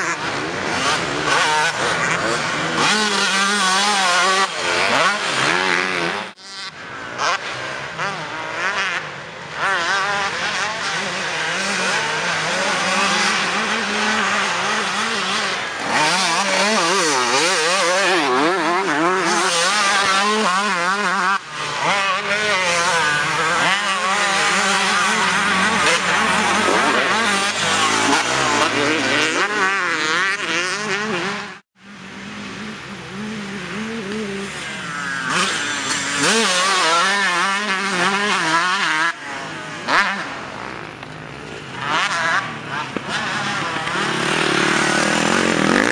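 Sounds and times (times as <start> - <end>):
motocross bikes revving: 0.0 - 45.9.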